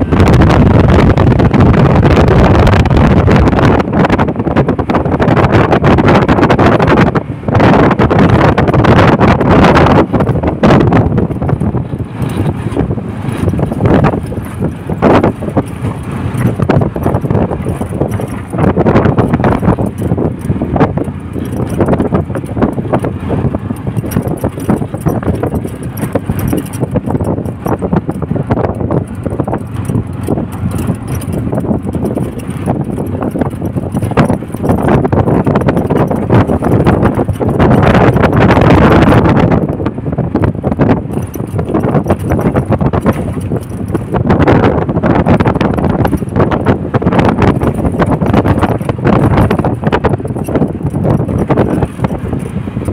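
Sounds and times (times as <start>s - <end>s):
road noise: 0.0s - 52.9s
wind buffeting microphone: 0.0s - 52.9s
knocks and rattles: 8.2s - 52.9s.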